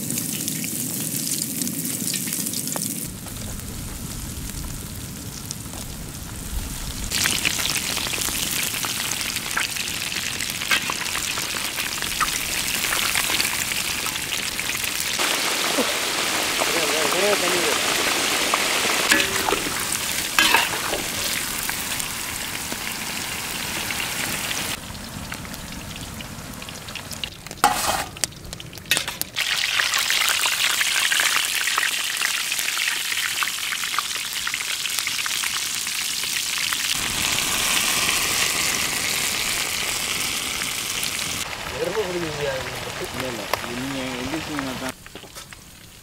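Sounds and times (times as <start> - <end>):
food deep-frying in hot oil: 0.0 - 46.0.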